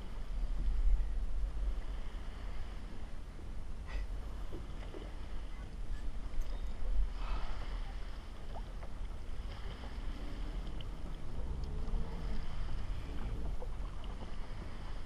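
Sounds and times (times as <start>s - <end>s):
water lapping against kayak hull: 0.0s - 15.0s
wind rumbling on microphone: 0.0s - 15.0s.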